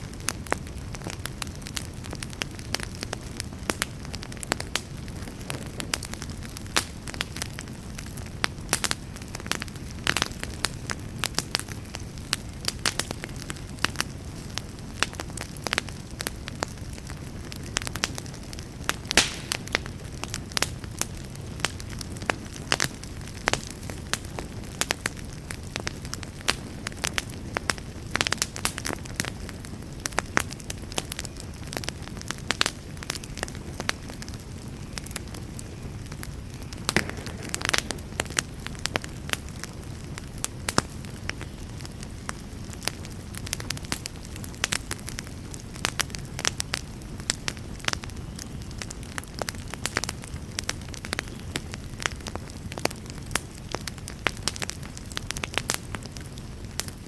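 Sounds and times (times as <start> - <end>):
campfire crackling and popping: 0.0 - 57.0
low fire rumble: 0.0 - 57.0.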